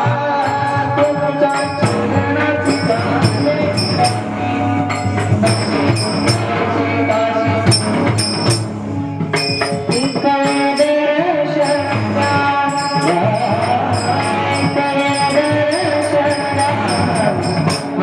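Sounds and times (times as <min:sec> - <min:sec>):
sustained melodic accompaniment: 0:00.0 - 0:18.0
hand cymbals striking: 0:00.4 - 0:06.5, 0:07.7 - 0:18.0.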